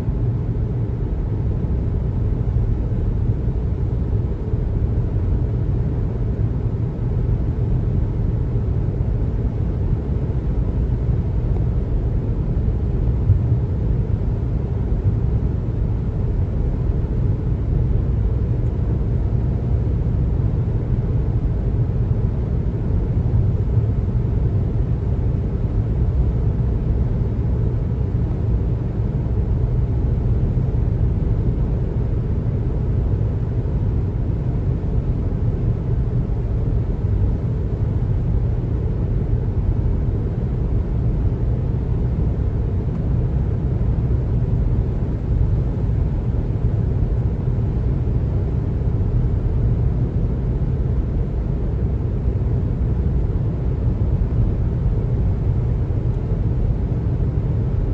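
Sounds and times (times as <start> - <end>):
car road noise rumble: 0.0 - 57.9.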